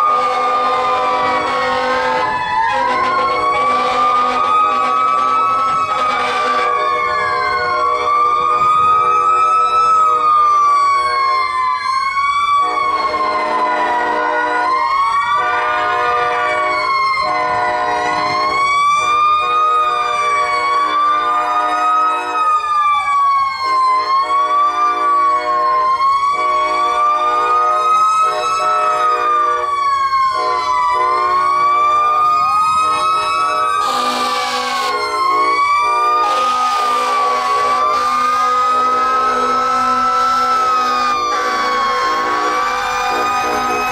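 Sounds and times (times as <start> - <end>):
locomotive air horn blasts: 0.0 - 10.4, 11.0 - 11.6, 12.6 - 14.6, 15.4 - 22.4, 23.6 - 43.9
fire engine sirens wailing: 0.0 - 43.9.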